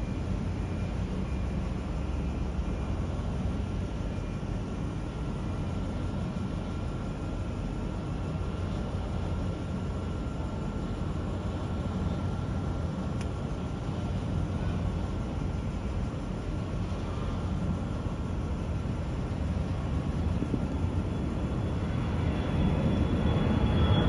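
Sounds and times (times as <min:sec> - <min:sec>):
jet engine rumble and whine: 0:00.0 - 0:24.0.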